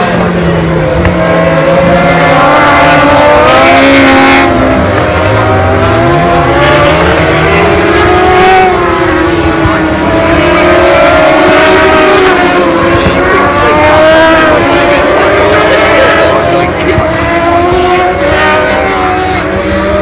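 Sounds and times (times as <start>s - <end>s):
motorcycle engines at high revs: 0.0s - 20.0s.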